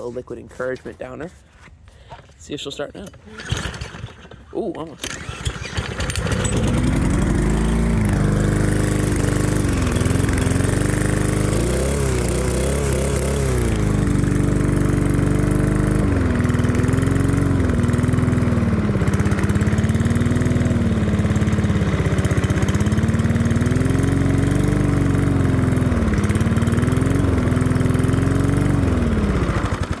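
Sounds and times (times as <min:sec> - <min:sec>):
lawn mower engine running unevenly: 0:03.0 - 0:30.0.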